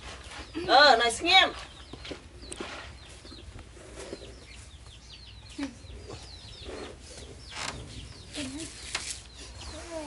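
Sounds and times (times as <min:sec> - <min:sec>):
chicks peeping: 0:00.2 - 0:10.0.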